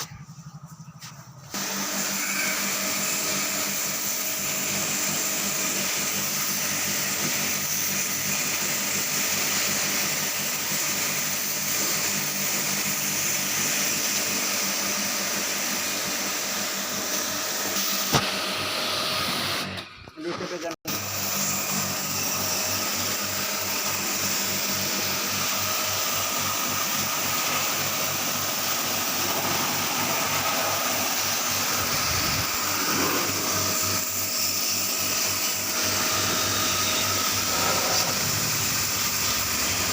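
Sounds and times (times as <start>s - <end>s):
electric motor machine hissing: 1.3s - 39.9s.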